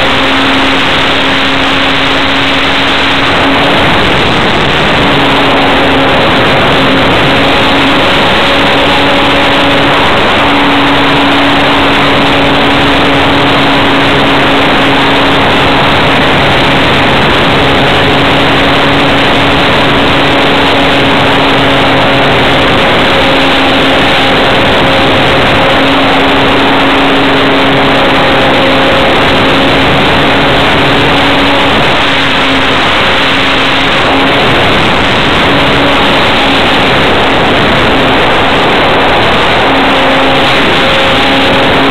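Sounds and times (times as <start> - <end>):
airflow rushing: 0.0 - 41.9
model plane motor drone: 0.0 - 41.9.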